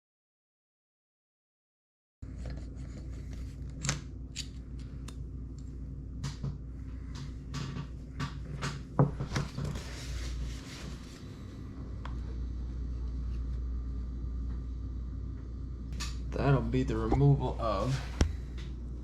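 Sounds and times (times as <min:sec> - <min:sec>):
low hum: 0:02.2 - 0:19.0.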